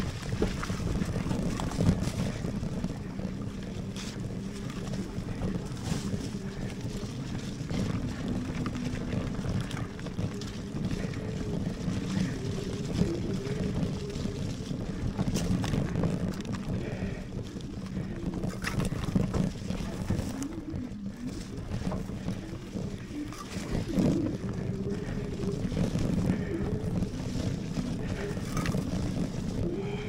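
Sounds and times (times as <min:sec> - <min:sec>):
bike tyres rumbling on trail: 0:00.0 - 0:30.0
wind on microphone: 0:00.0 - 0:30.0.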